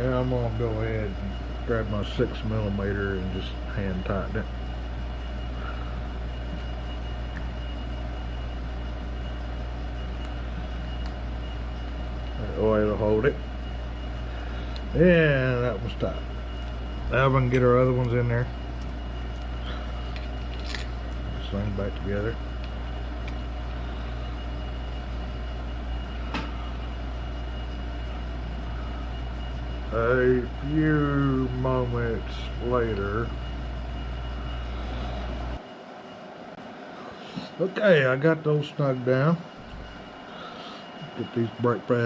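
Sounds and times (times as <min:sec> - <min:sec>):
machine hum: 0:00.0 - 0:42.0
thin high whine: 0:00.0 - 0:42.0.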